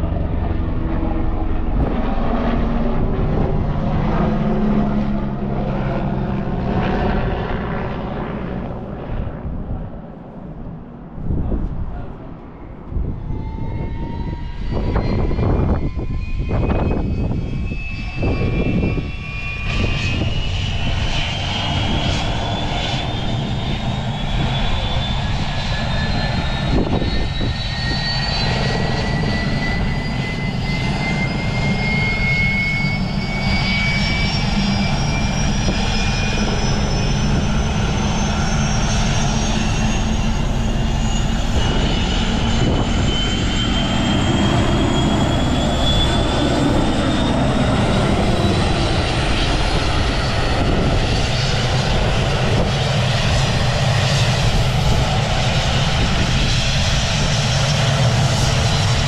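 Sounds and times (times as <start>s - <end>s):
helicopter turbine engines: 0.0s - 59.0s.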